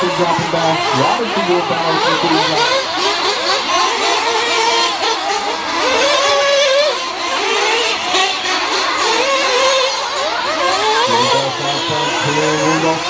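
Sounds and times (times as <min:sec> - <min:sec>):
radio-controlled car engines revving: 0:00.0 - 0:13.0.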